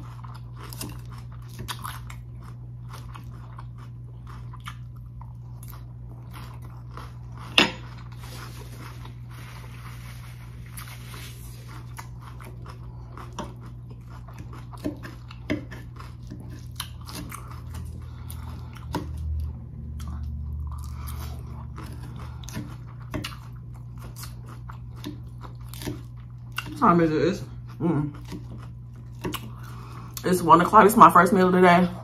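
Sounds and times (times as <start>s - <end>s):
chewing crisp lettuce: 0.0s - 30.8s
steady low hum: 0.0s - 32.0s.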